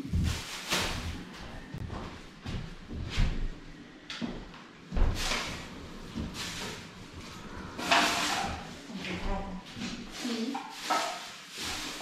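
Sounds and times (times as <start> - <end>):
plastic bag rustling: 0.0 - 3.5, 4.9 - 12.0.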